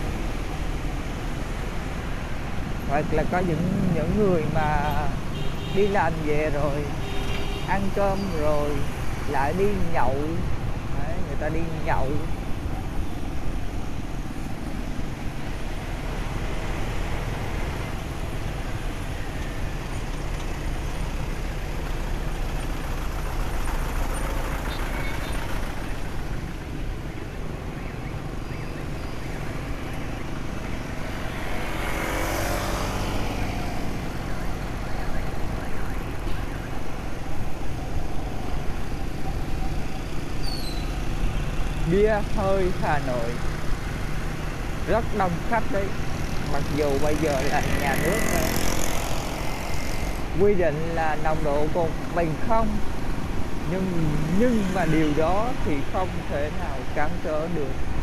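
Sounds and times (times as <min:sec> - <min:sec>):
motorbike engine and wind rumble: 0:00.0 - 0:58.0
surrounding traffic: 0:00.0 - 0:58.0.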